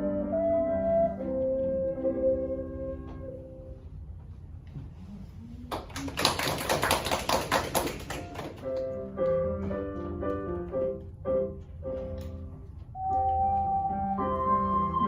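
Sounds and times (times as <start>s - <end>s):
held musical notes: 0.0s - 5.7s, 8.6s - 15.0s.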